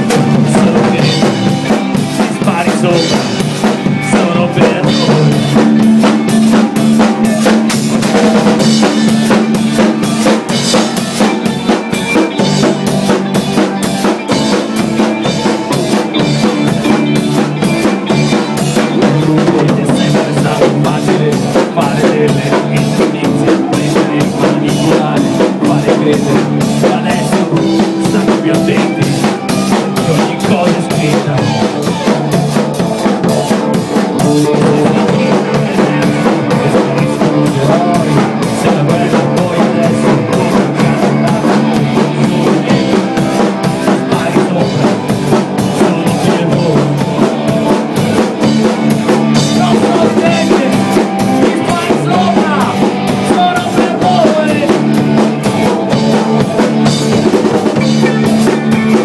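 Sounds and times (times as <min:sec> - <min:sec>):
bass guitar: 0:00.0 - 0:59.0
drum kit with cymbals: 0:00.0 - 0:59.0
electric guitar: 0:00.0 - 0:59.0.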